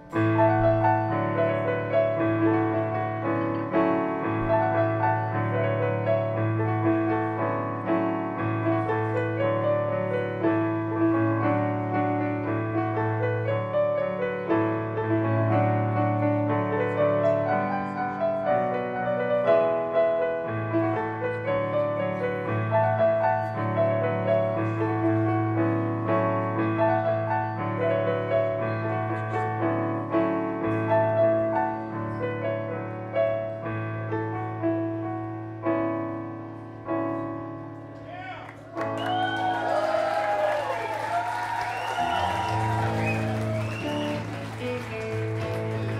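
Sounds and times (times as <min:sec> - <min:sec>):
stage piano melody: 0:00.0 - 0:45.9.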